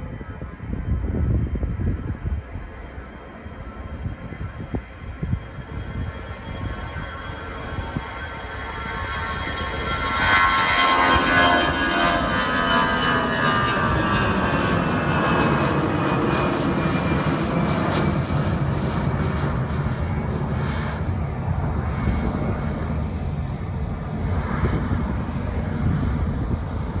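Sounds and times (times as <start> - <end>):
jet engine rumble: 0.0 - 27.0
jet engine whine: 0.0 - 27.0.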